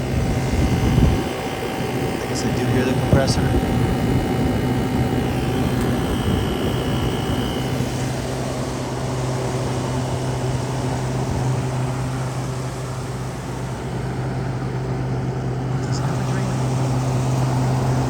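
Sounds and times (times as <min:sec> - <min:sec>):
air conditioner fan whirring: 0:00.0 - 0:18.0
low constant hum: 0:00.0 - 0:18.0.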